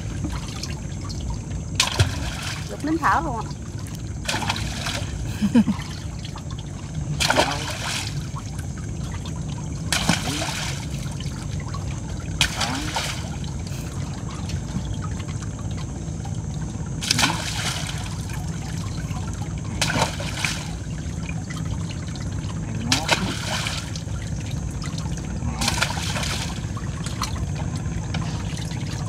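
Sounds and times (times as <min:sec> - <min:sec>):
steady low hum: 0:00.0 - 0:29.0
water splashing and running off: 0:00.0 - 0:29.0.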